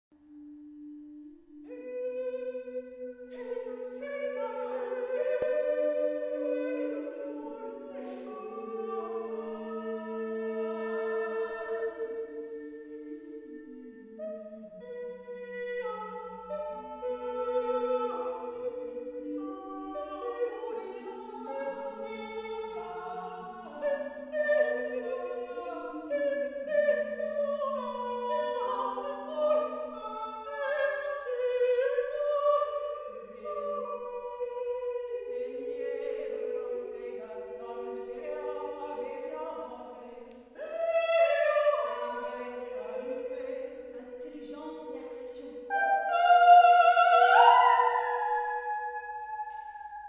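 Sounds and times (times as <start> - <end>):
women singing a cappella: 0.2 - 50.0.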